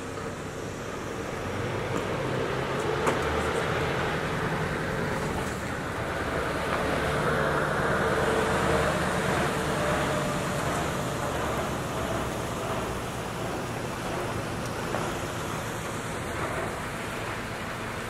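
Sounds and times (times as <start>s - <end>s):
heavy truck diesel engine: 0.0s - 18.0s.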